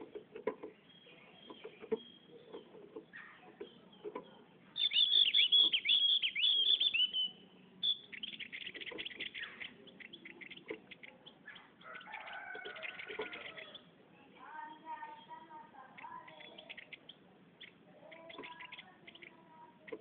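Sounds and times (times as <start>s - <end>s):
bird singing: 0.0s - 20.0s.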